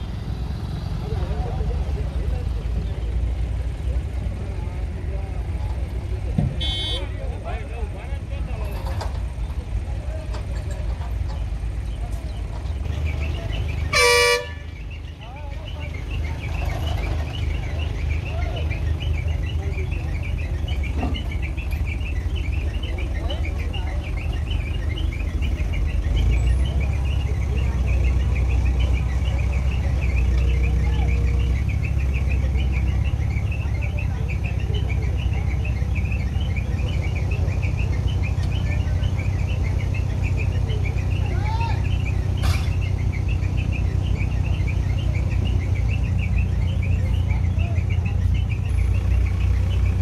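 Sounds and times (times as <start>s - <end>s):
diesel engine rumbling: 0.0s - 50.0s
small birds chirping: 0.0s - 50.0s.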